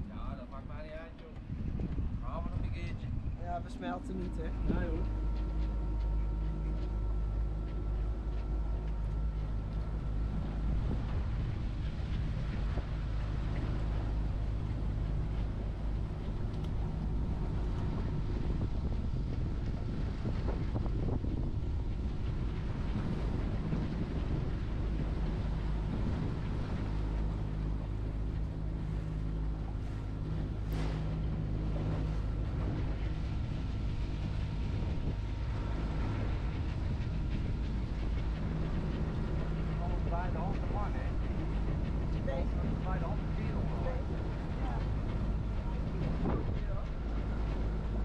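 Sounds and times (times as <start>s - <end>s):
low engine drone: 0.0s - 48.0s
wind on microphone: 0.0s - 48.0s.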